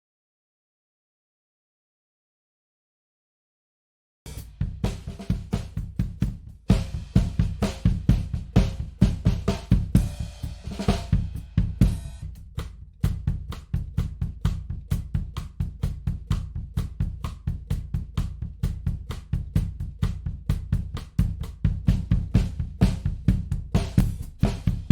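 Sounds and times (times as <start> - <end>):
drum kit groove: 4.3 - 24.9.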